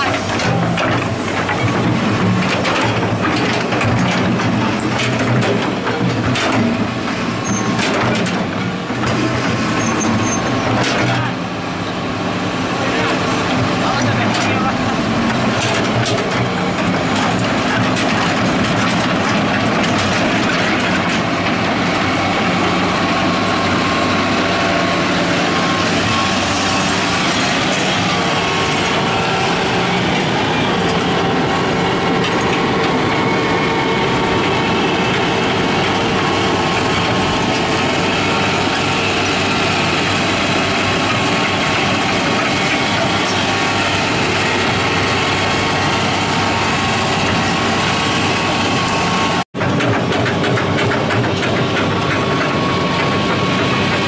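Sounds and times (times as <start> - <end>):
excavator diesel engine under load: 0.0 - 54.0
hydraulic whine: 0.0 - 54.0.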